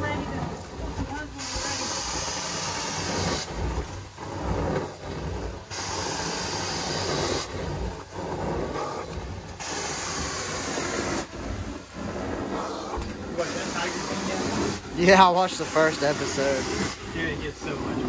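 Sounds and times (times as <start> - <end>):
carpet cleaning wand vacuum rush: 0.0 - 18.0.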